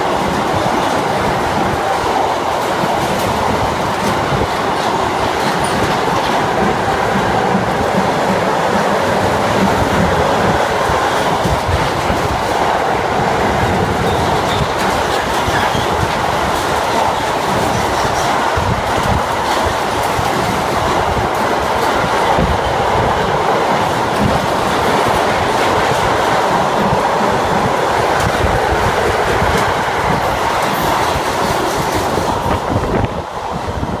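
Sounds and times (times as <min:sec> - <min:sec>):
train wheels running over rails: 0:00.0 - 0:34.0.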